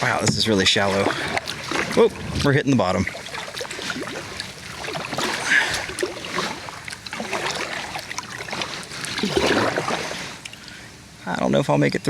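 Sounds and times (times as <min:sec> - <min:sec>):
kayak hull scraping riverbed: 0:00.0 - 0:10.7.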